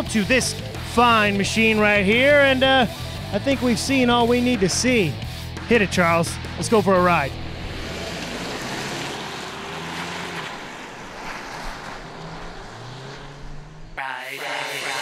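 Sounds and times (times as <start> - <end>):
car road noise: 0.0 - 15.0.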